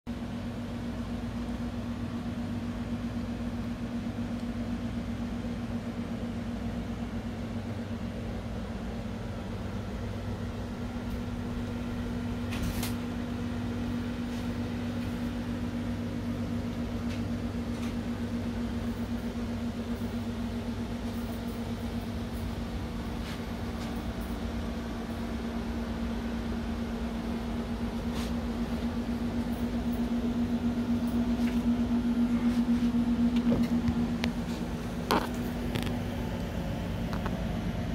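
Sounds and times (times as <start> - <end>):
steady machine hum: 0.1 - 37.9.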